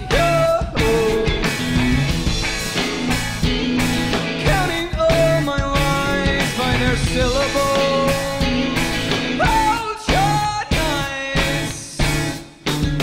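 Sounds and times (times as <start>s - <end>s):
live rock band: 0.0s - 13.0s.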